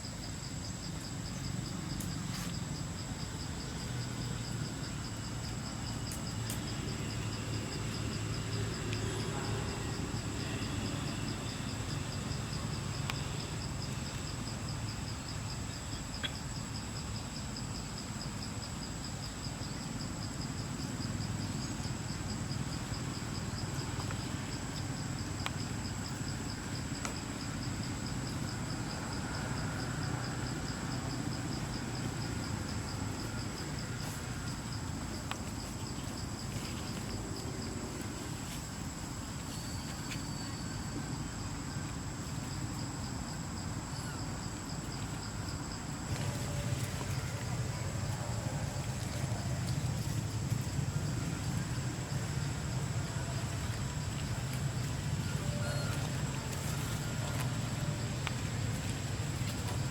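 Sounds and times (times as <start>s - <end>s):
continuous high whine: 0.0s - 59.9s
insects trilling: 0.0s - 59.9s.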